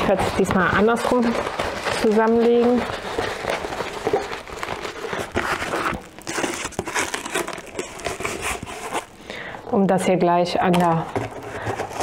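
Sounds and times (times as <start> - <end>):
plastic film crinkling: 0.0 - 9.6.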